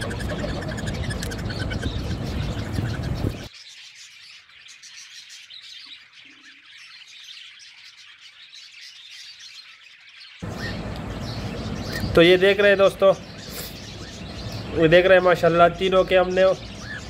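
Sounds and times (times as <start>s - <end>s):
chicks chirping: 0.0s - 17.0s.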